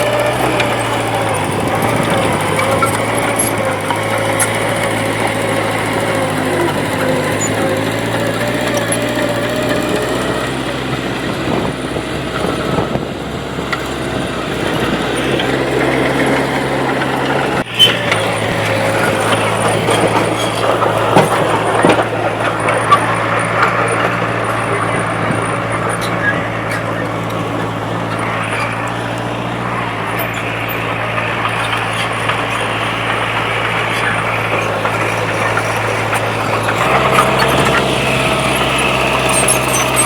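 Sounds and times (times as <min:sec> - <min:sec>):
diesel machinery engine running: 0:00.0 - 0:40.0.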